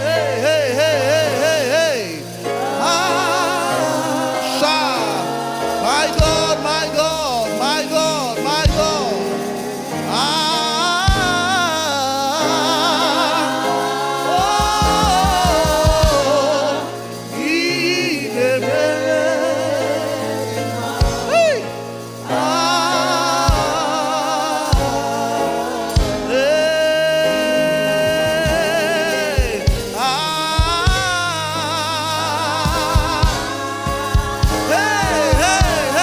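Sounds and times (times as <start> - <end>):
gospel singing voice: 0.0 - 36.0.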